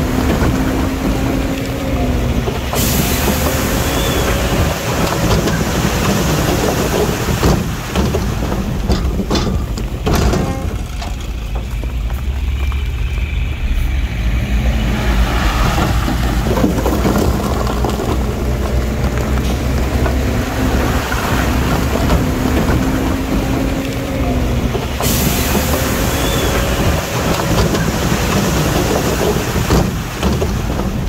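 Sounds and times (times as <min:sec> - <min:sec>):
diesel engine rumbling: 0:00.0 - 0:31.0
rough rushing noise: 0:00.0 - 0:31.0.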